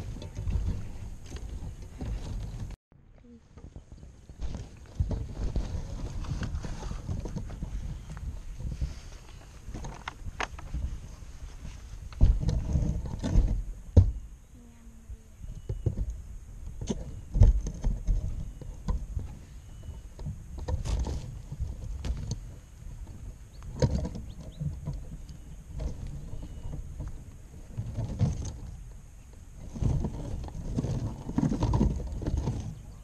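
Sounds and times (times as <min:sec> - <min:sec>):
knocks and rustling at microphone: 0:00.0 - 0:02.8, 0:03.5 - 0:14.3, 0:15.5 - 0:33.0.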